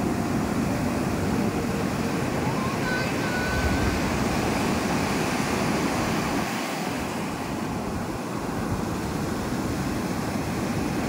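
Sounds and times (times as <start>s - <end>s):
sea surf breaking on sand: 0.0s - 11.0s.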